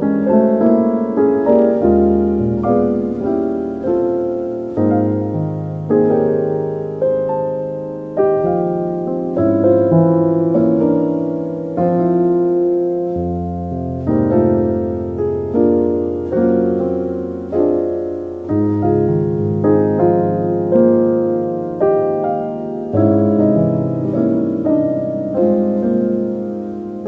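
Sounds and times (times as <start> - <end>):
gentle solo piano: 0.0 - 27.0.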